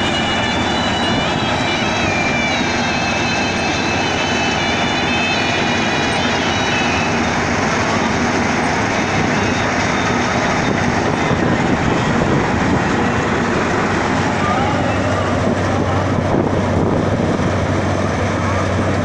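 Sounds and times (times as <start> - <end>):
harvesting machine running: 0.0 - 19.0
high whine: 0.0 - 19.0.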